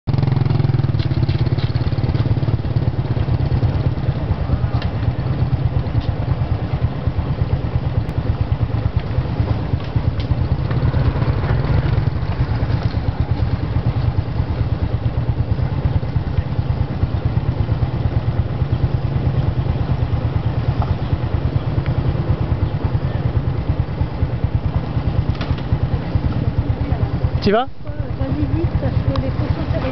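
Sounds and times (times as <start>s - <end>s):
small motorbike engine running: 0.1s - 29.9s.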